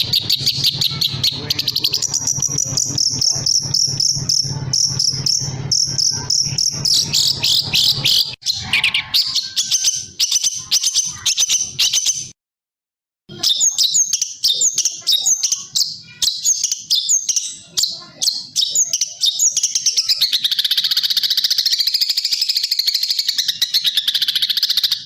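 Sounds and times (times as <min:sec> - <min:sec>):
songbird chirps and trills: 0:00.0 - 0:12.3, 0:13.3 - 0:25.0.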